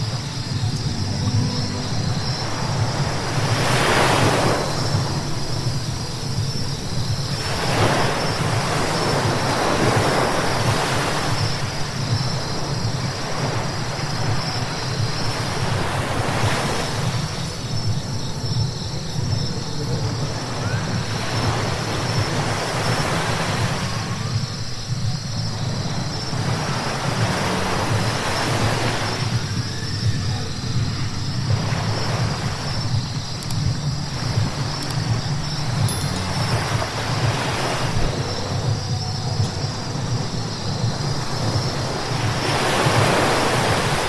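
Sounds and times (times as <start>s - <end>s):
thin high whine: 0.0s - 27.0s, 28.5s - 42.5s.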